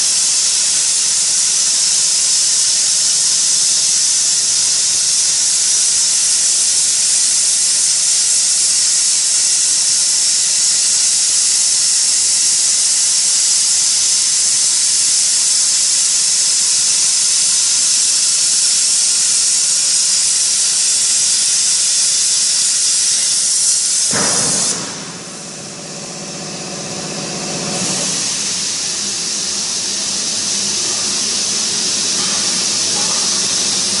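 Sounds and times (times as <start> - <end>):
plasma cutter torch hissing: 0.0 - 34.0.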